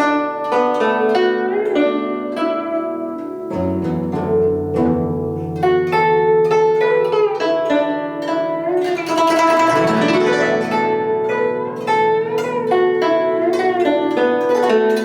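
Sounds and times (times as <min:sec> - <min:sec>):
plucked zither music: 0:00.0 - 0:15.0.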